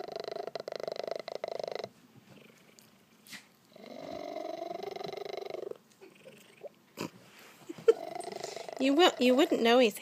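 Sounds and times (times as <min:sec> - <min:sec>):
cat purring loudly: 0:00.0 - 0:02.9, 0:03.7 - 0:07.2, 0:07.8 - 0:09.7.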